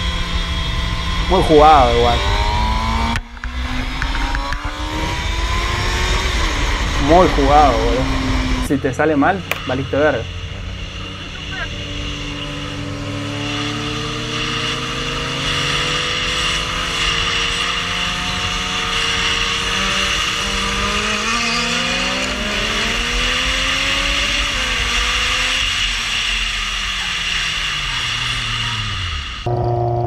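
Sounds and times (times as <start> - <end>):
vehicle engine accelerating: 0.0 - 30.0.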